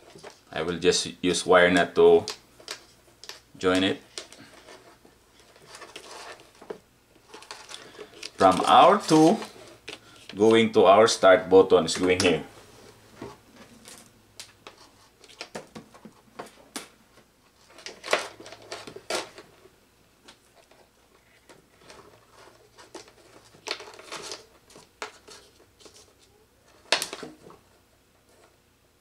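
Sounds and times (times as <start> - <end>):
wires rustling and scraping: 1.5 - 28.6.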